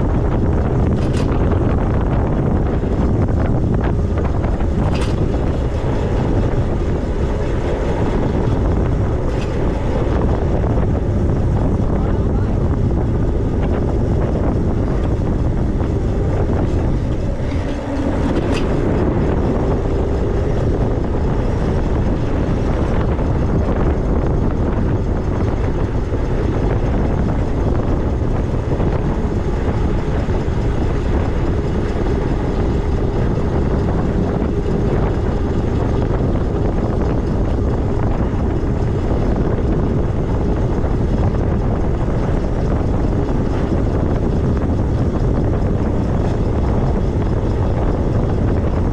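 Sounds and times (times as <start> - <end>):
bike tyre noise: 0.0 - 48.9
wind rushing on microphone: 0.0 - 48.9.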